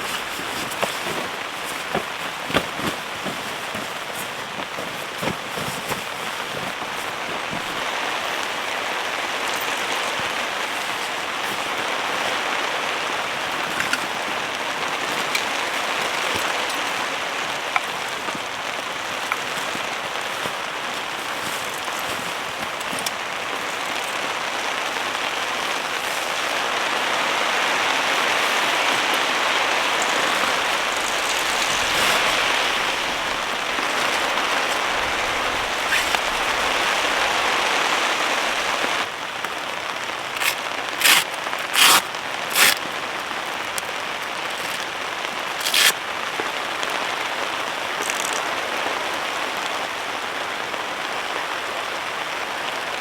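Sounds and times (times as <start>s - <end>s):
heavy rain on a tent: 0.0s - 53.0s.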